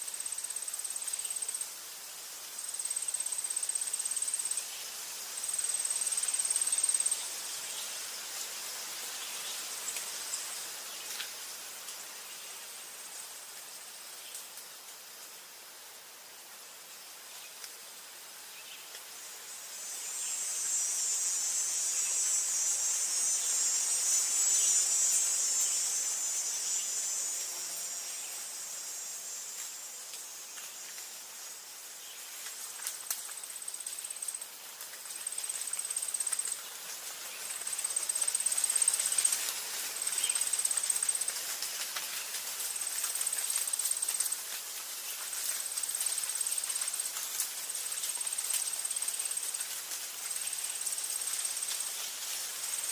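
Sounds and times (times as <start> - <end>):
insects buzzing chorus: 0.0 - 52.9.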